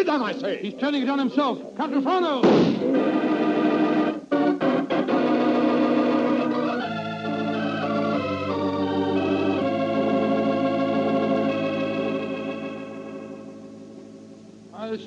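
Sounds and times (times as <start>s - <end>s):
held organ chords: 0.0s - 15.0s.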